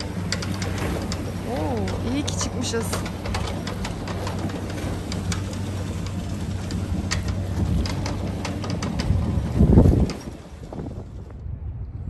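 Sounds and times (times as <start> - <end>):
sharp clicks and knocks: 0.0 - 10.4
boat engine running steadily: 0.0 - 12.0.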